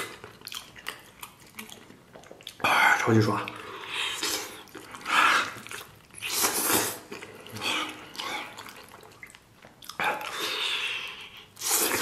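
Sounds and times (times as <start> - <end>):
man chewing and sucking meat: 0.0 - 12.0.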